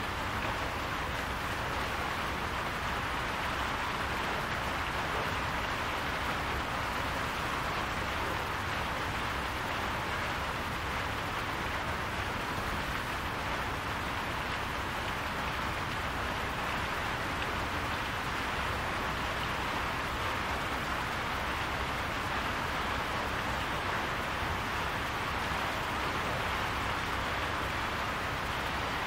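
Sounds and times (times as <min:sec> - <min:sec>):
rain falling on a roof: 0:00.0 - 0:29.0.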